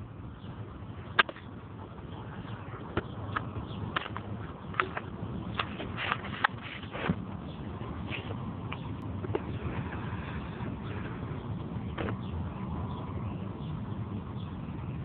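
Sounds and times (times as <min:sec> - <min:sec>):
microphone wind rumble: 0:00.0 - 0:15.0.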